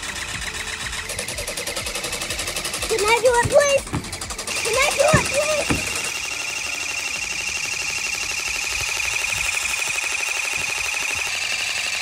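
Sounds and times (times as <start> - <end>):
water gun pump buzzing: 0.0 - 12.0.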